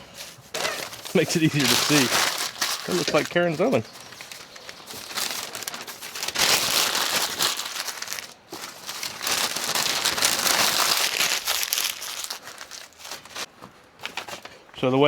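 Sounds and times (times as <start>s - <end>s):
crumpling crackling noise: 0.0s - 15.0s.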